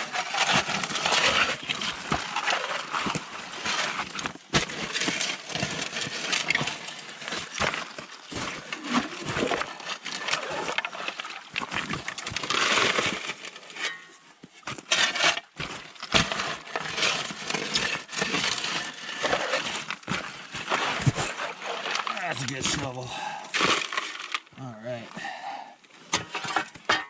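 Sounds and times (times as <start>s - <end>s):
shovel digging into gravel: 0.0s - 13.5s, 14.7s - 23.0s
stones clattering: 0.0s - 13.7s, 14.7s - 24.5s.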